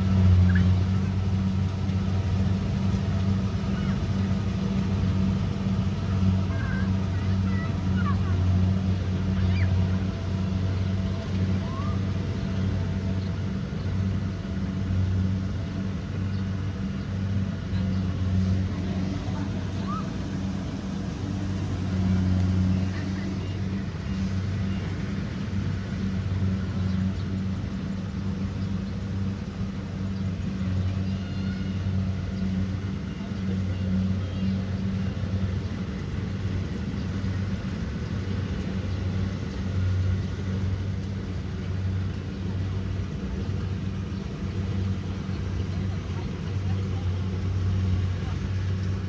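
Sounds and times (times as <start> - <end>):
combine harvester engine drone: 0.0 - 49.0.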